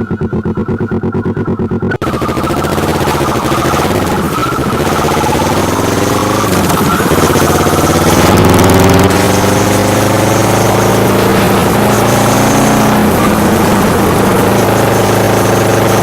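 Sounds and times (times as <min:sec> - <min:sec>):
motorcycle engine running loud: 0:00.0 - 0:16.0.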